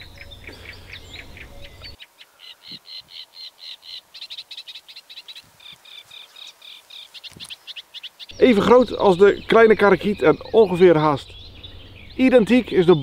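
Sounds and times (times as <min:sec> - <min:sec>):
warbler singing harsh notes: 0:00.0 - 0:13.0.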